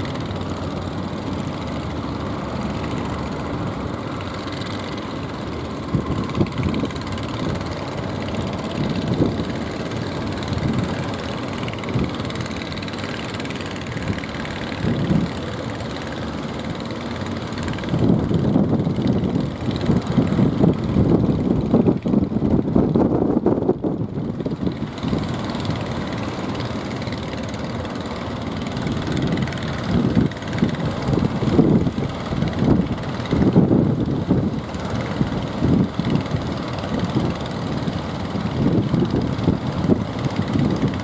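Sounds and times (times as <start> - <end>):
boat engine running: 0.0 - 41.0
wind buffeting microphone: 0.0 - 41.0.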